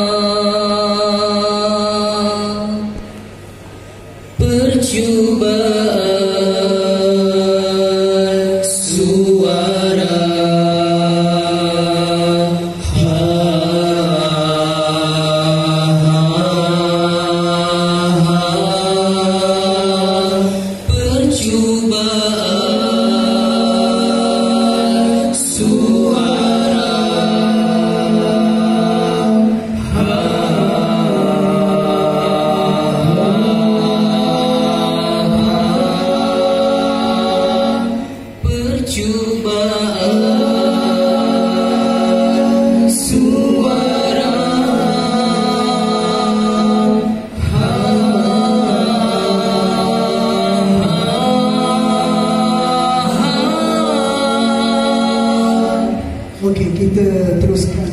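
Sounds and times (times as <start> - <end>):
male vocal group singing a cappella: 0.0 - 3.1, 4.4 - 57.9.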